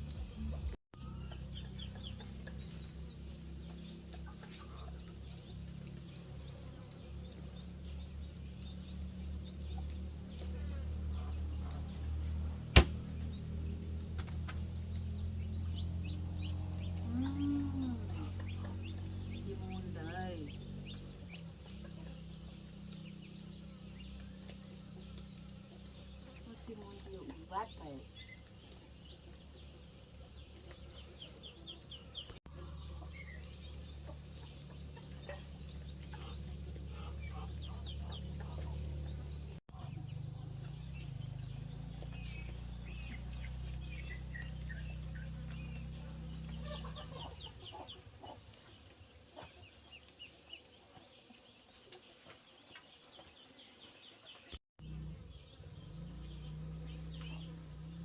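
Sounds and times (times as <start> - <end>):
chickens clucking: 0.0 - 54.6
chicks peeping: 0.0 - 58.0.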